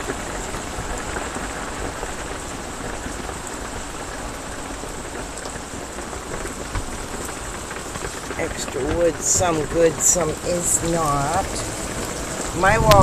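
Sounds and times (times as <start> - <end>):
heavy rain on metal roof: 0.0 - 13.0.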